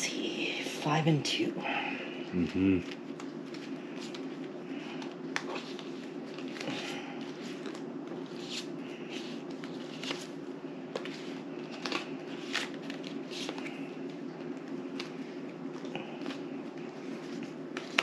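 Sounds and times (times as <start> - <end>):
low room hum: 0.0 - 18.0
playing cards clicking and rustling: 2.4 - 18.0.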